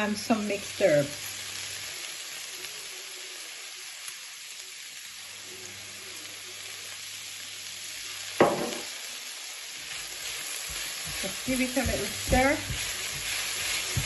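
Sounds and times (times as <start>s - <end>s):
stir-fry sizzling in oil: 0.0s - 14.0s.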